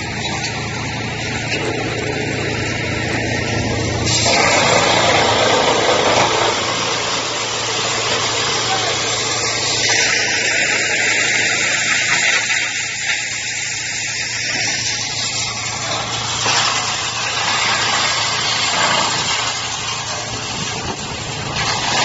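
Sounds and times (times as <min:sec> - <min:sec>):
wood chipper running: 0:00.0 - 0:22.0.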